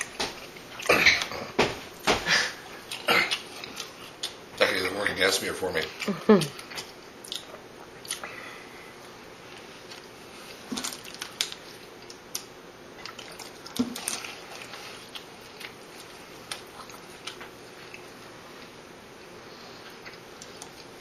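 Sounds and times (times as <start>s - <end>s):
person chewing: 0.0s - 4.9s, 5.9s - 8.6s, 9.4s - 21.0s
room noise: 0.0s - 21.0s.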